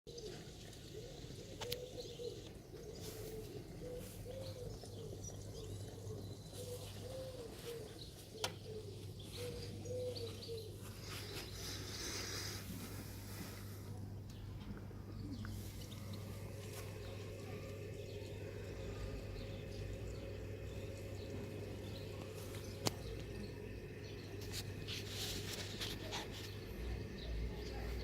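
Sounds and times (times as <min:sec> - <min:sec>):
dove cooing: 0:00.1 - 0:13.8, 0:15.1 - 0:28.0.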